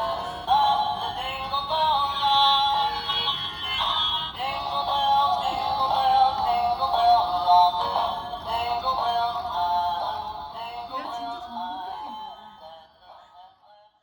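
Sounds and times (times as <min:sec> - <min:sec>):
toy speaker playing sung song: 0:00.0 - 0:13.9.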